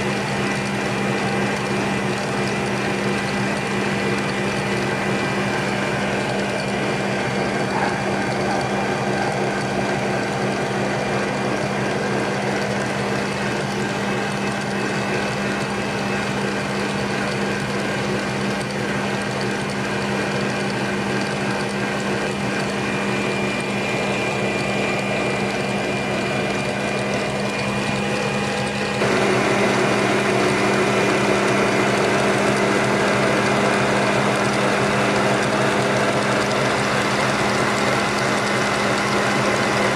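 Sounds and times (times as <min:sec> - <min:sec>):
electric stand mixer whisking: 0:00.0 - 0:39.9.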